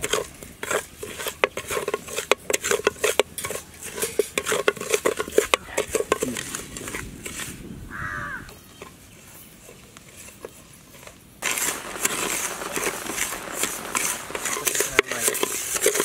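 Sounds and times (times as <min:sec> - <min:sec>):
rice grains scraping in clay pot: 0:00.0 - 0:07.7, 0:08.7 - 0:16.0.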